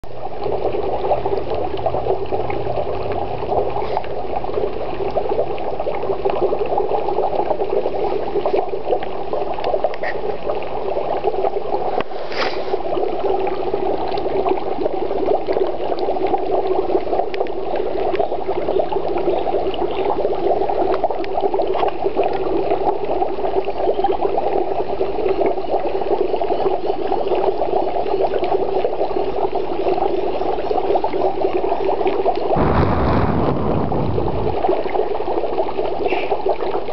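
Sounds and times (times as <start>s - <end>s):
dry ice bubbling in water: 0.1s - 36.9s.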